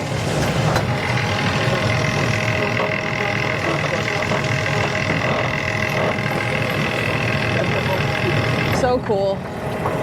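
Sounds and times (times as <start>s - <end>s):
machinery high whine: 0.0s - 10.0s.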